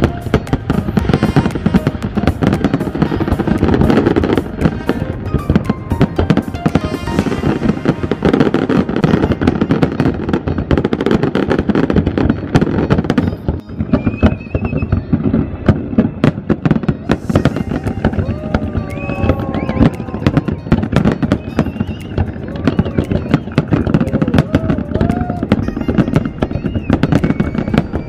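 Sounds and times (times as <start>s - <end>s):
fireworks bangs and crackling: 0.0s - 28.0s
music: 0.0s - 28.0s.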